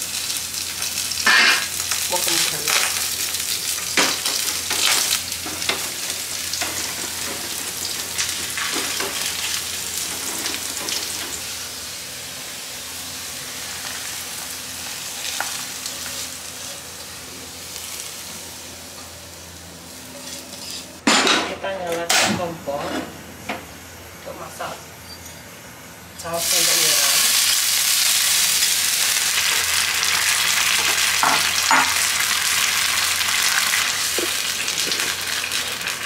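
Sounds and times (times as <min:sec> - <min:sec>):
garlic sizzling in oil: 0:00.0 - 0:20.8, 0:26.2 - 0:36.0.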